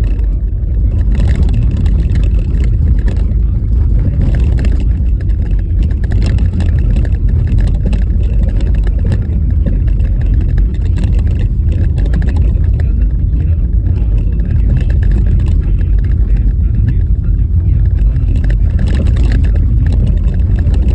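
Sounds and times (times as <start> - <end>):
knocks and rattles: 0.0 - 20.9
tyres rumbling on bumpy road: 0.0 - 20.9.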